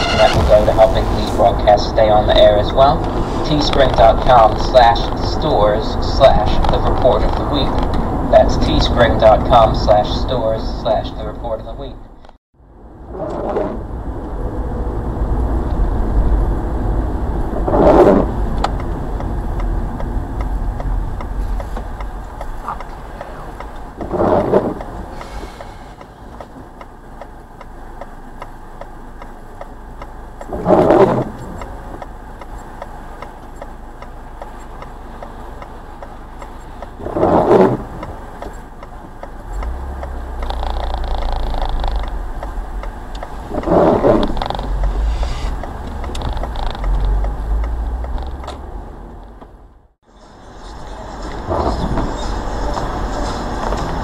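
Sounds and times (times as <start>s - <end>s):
windscreen wipers sweeping: 0.0s - 11.9s, 13.1s - 49.8s, 50.6s - 54.0s
car road and engine noise: 0.0s - 54.0s.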